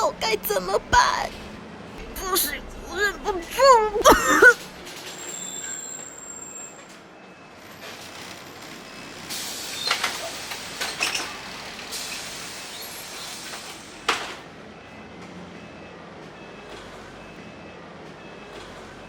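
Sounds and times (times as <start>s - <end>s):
vehicle ride noise: 0.0s - 19.0s.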